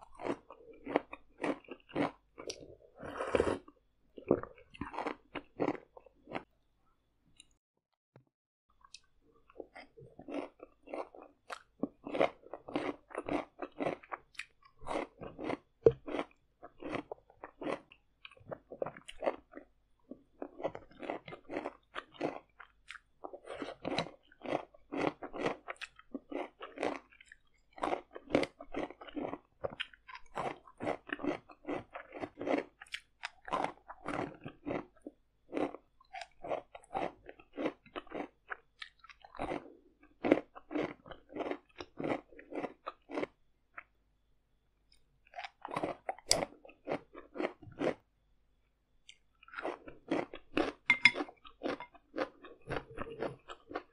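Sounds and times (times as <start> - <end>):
chewing and crunching noodles: 0.0 - 6.5, 8.7 - 44.0, 44.8 - 48.1, 49.0 - 53.9.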